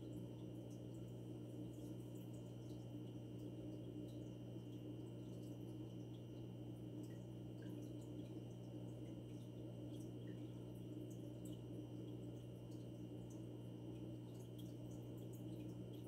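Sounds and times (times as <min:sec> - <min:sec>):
aquarium pump humming: 0:00.0 - 0:16.0
water dripping and ticking: 0:00.0 - 0:16.0.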